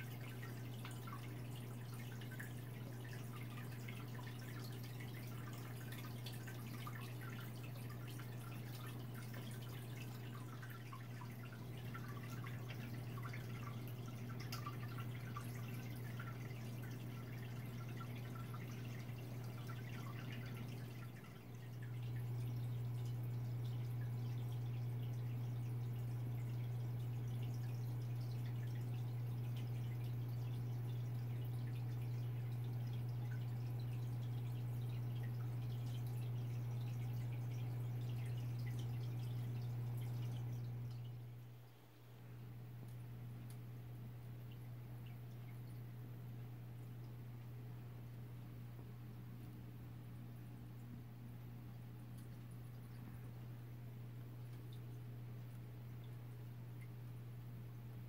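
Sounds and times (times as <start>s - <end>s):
aquarium pump humming: 0.0s - 58.0s
water dripping and bubbling: 0.0s - 58.0s.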